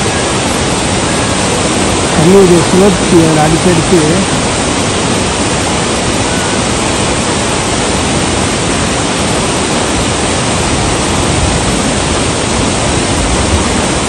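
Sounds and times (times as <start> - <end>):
waterfall rushing into pool: 0.0 - 14.0.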